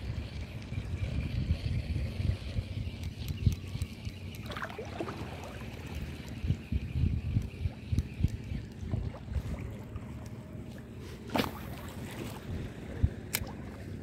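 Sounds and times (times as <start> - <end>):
wind buffeting microphone: 0.0 - 10.0, 11.4 - 14.0
sea water lapping: 0.0 - 14.0.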